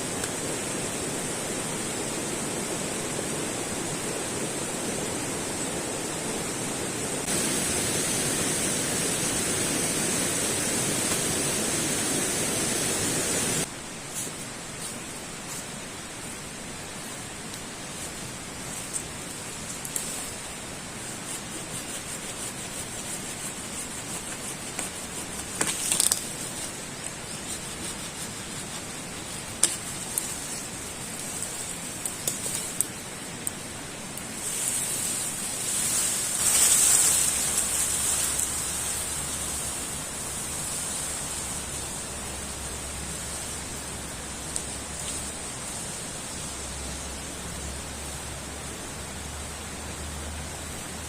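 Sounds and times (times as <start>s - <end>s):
rain hiss: 0.0s - 51.0s.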